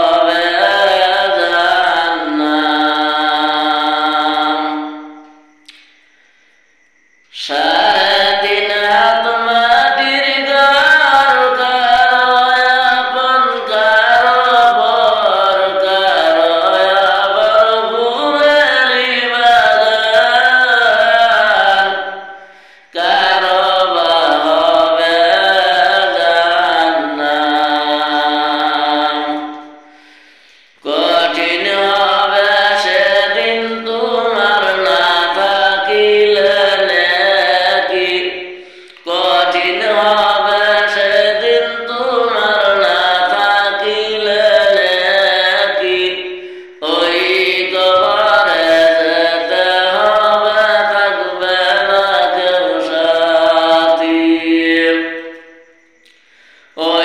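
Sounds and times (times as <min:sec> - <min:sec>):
solo voice singing: 0:00.0 - 0:05.3, 0:07.3 - 0:30.0, 0:30.8 - 0:56.1, 0:56.7 - 0:57.0.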